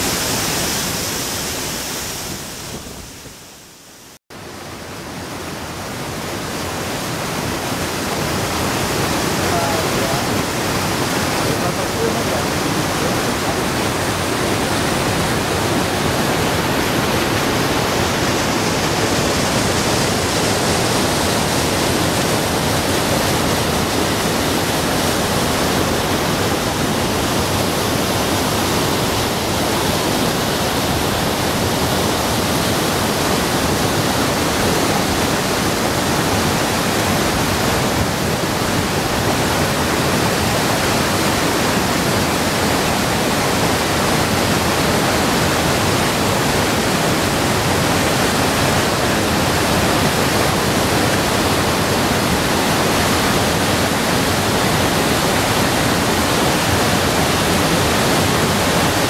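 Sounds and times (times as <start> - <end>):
waterfall and river rapids rushing: 0.0 - 59.0.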